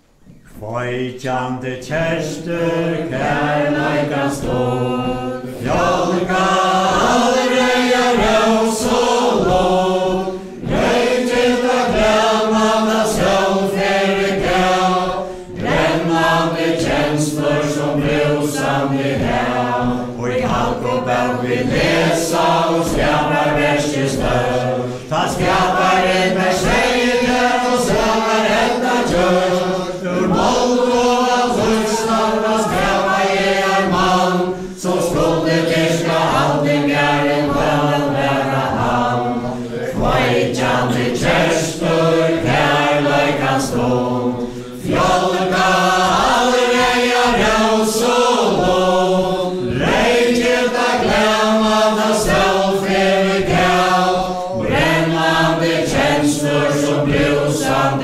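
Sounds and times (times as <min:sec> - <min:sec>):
group singing without instruments: 0:00.0 - 0:58.0.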